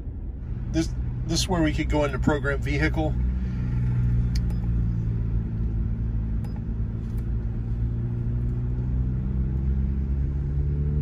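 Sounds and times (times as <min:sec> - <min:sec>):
engine idling low rumble: 0:00.0 - 0:11.0.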